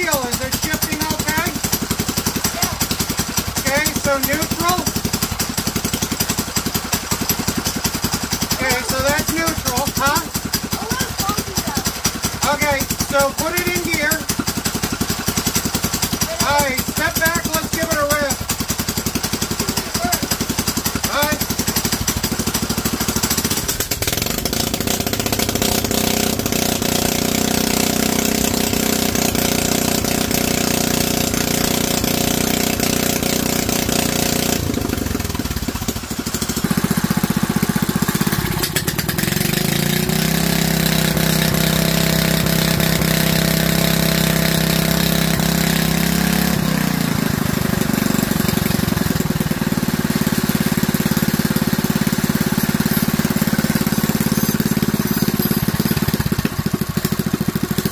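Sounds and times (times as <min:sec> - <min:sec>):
small four-stroke engine running: 0:00.0 - 0:57.9.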